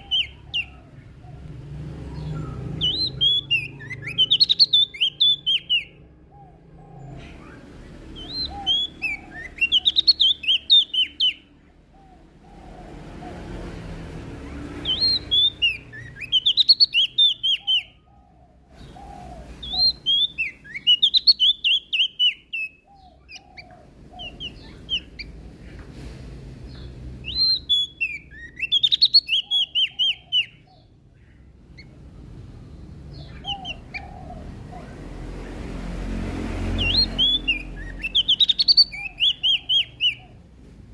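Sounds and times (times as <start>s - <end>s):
warbler chirping: 0.0s - 25.8s, 26.6s - 40.9s.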